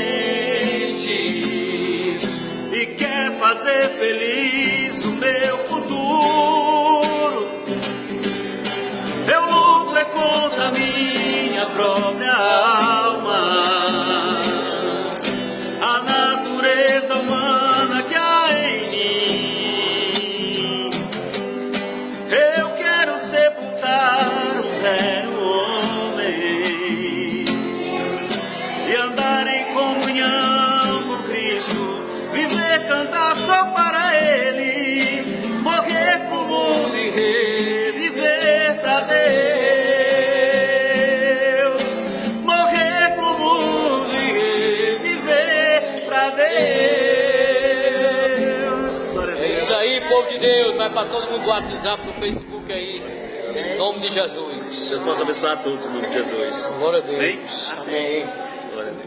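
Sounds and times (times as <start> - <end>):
men singing a hymn: 0.0 - 7.9, 8.6 - 21.2, 22.2 - 54.1.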